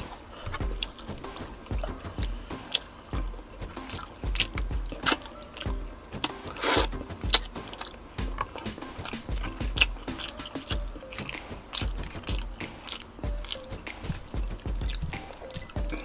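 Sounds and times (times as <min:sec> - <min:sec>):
wet chewing smacks: 0:00.0 - 0:16.0.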